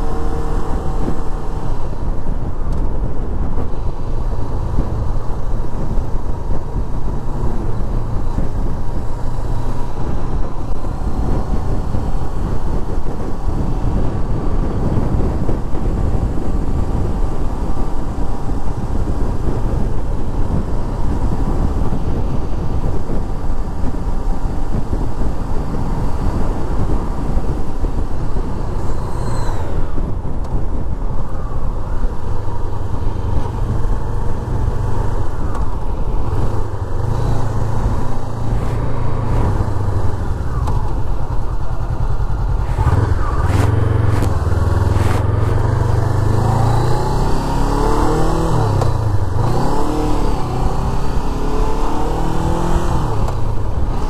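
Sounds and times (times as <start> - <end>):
motorcycle engine and tyre noise: 0.0 - 54.0
wind rush on microphone: 0.0 - 54.0.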